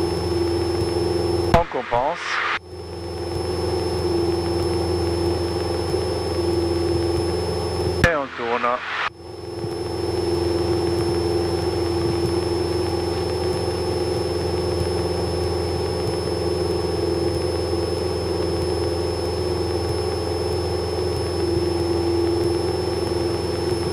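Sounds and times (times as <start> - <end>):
propeller plane engine droning: 0.0 - 23.9
thin high whine: 0.0 - 23.9.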